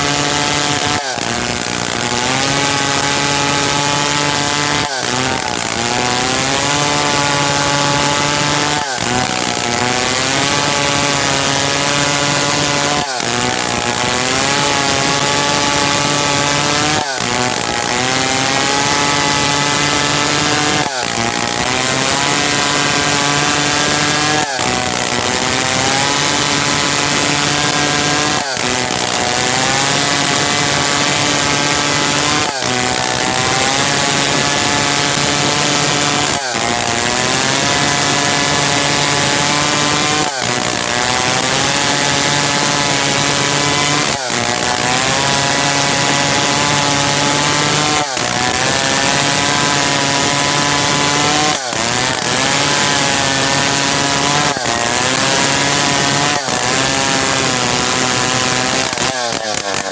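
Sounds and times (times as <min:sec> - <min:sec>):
chainsaw sawing hardwood: 0:00.0 - 0:59.9.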